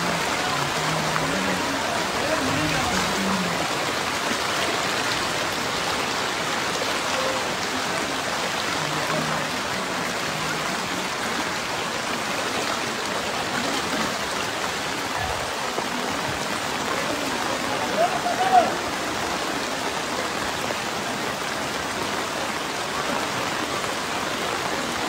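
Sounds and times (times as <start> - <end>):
heavy rain on water: 0.0 - 25.0.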